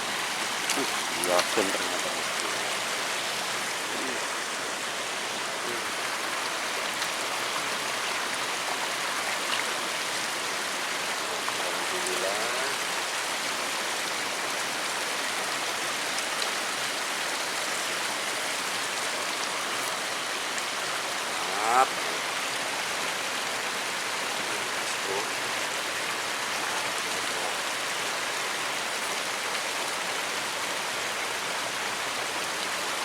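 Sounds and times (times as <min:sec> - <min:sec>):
water rushing in stream: 0:00.0 - 0:33.0.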